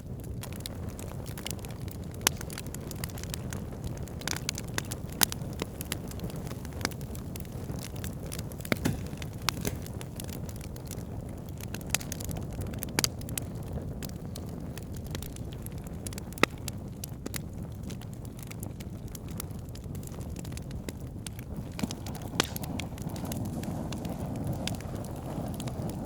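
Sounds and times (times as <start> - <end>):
burning wood crackling and popping: 0.0 - 26.0
fire flames rumbling: 0.0 - 26.0.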